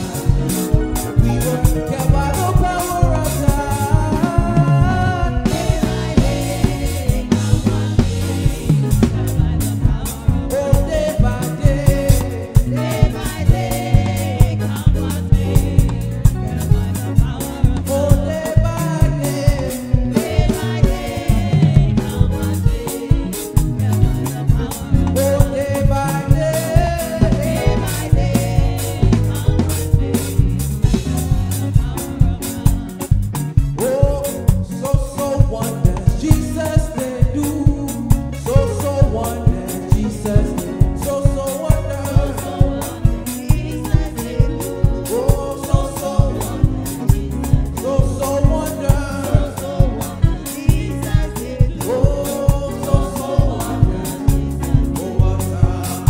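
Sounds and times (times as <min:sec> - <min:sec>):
band playing danceable beat: 0:00.0 - 0:56.0
lead singer and backing vocals: 0:00.0 - 0:56.0.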